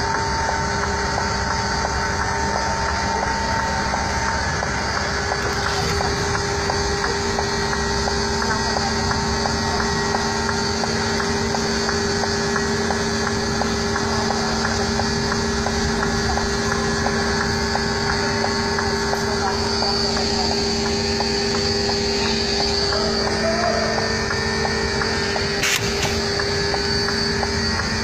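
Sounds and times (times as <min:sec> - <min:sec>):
diesel truck engine running: 0:00.0 - 0:28.0
low hum: 0:00.0 - 0:28.0.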